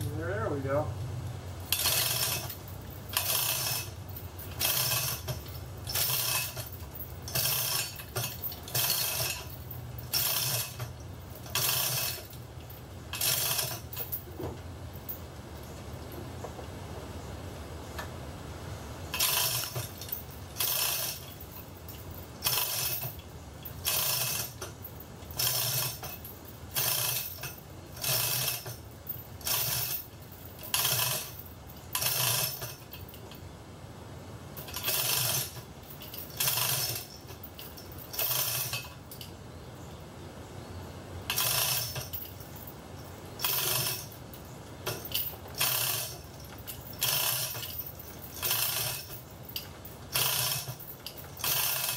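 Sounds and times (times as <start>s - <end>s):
chain hoist chain rattling: 0.0s - 0.9s, 1.5s - 16.2s, 19.1s - 33.5s, 34.5s - 39.4s, 41.3s - 51.9s.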